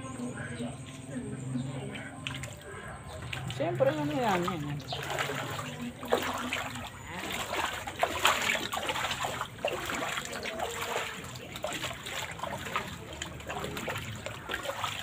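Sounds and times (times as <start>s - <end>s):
splashes and trickling water: 0.9s - 15.0s.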